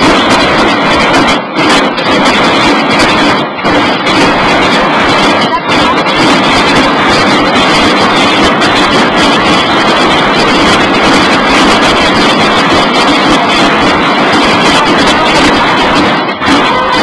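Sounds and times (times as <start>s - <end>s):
snare drums playing: 0.0s - 17.0s.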